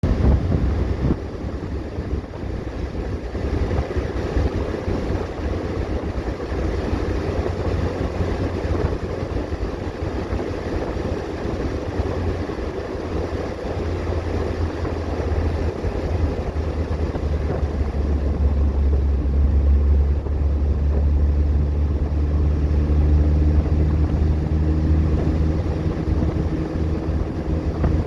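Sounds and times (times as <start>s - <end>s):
car engine rumble: 0.0s - 28.0s
wind noise on microphone: 0.0s - 28.0s.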